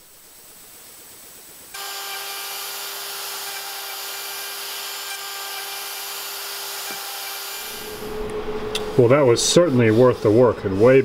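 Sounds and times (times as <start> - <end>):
hiss of cutting: 0.0 - 8.2, 8.8 - 11.0
router spindle whine: 1.8 - 11.0.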